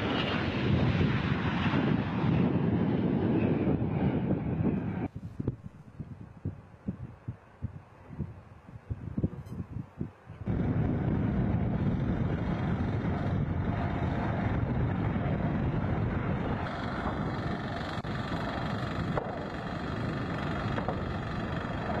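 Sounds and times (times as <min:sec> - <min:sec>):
helicopter rotor and engine noise: 0:00.0 - 0:22.0.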